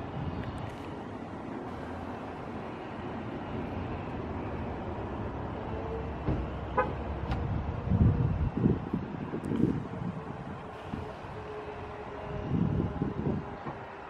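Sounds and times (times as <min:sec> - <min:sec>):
wind gusts on microphone: 0:00.0 - 0:14.0.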